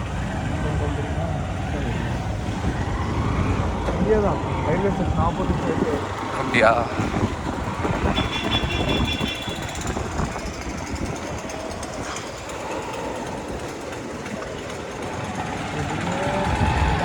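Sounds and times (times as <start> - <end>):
motorcycle engine: 0.0 - 17.0
road noise: 0.0 - 17.0
wind buffeting microphone: 0.0 - 17.0.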